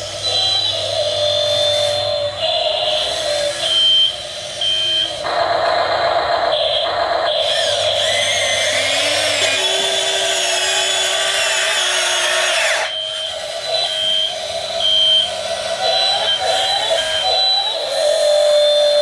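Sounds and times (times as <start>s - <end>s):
small electric motors whirring: 0.0s - 5.4s, 7.2s - 19.0s.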